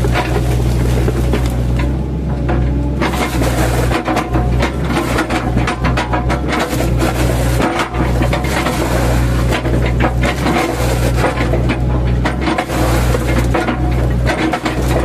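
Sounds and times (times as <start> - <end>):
bucket cracking and knocking wood: 0.0 - 15.0
excavator diesel engine running: 0.0 - 15.0.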